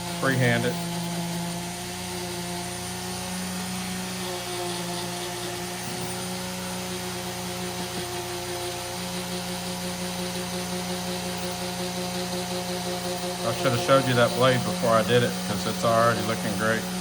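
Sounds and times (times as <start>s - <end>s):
rotary tool humming: 0.0s - 17.0s.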